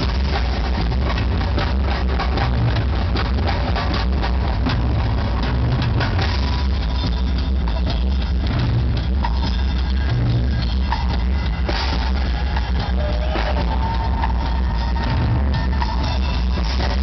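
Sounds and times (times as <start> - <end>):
rock drum solo: 0.0 - 17.0.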